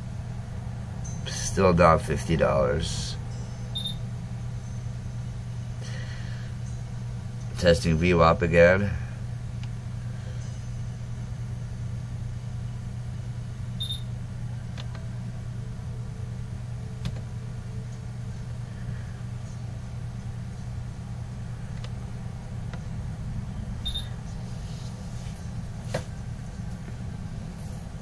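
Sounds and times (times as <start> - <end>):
low equipment hum: 0.0 - 28.0.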